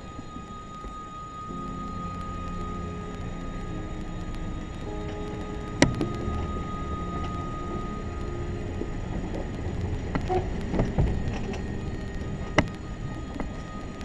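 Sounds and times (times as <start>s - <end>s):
vehicle rumbling: 1.8s - 14.0s.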